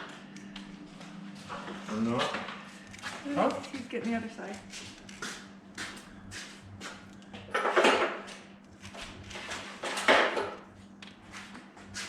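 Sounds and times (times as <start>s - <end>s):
faint steady hum: 0.0s - 11.8s.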